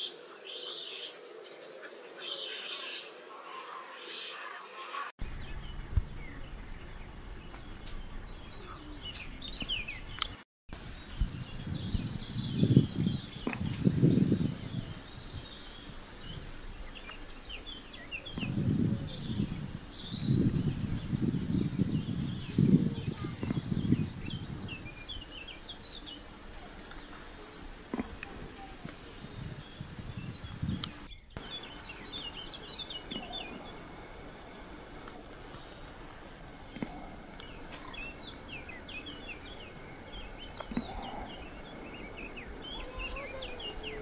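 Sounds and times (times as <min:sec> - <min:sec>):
small birds chirping: 0:00.0 - 0:44.0
low rustling noise: 0:05.2 - 0:44.0.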